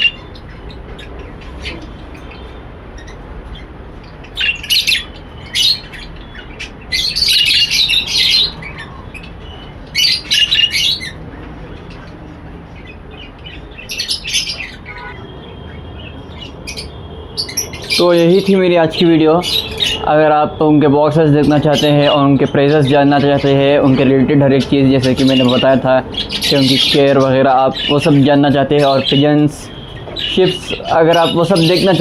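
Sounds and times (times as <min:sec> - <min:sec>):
parrots chirping and squawking: 0:00.0 - 0:32.0.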